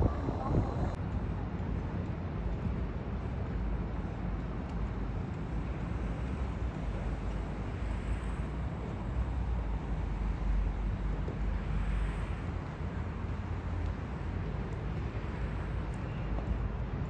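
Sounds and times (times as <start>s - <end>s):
harbour background noise: 0.0s - 17.0s
steady low rumble: 0.0s - 17.0s.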